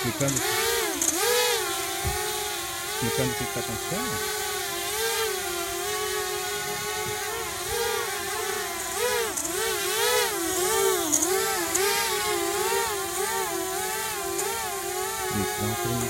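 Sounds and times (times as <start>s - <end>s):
drone motor whining: 0.0s - 16.0s.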